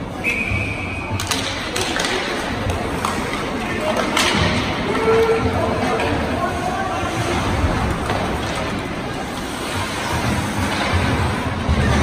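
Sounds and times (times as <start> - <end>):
arena crowd noise: 0.0 - 12.0.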